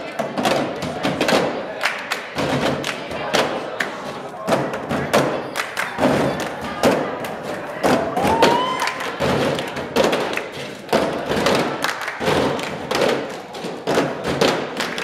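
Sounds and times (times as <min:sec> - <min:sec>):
hands clapping: 0:00.5 - 0:15.0
plastic cups thumped on a table: 0:02.3 - 0:15.0.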